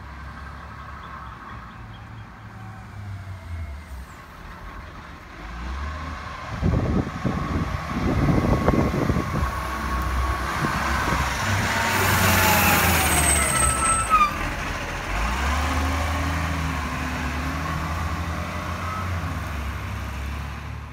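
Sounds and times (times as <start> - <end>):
garbage truck diesel engine: 0.0 - 20.9.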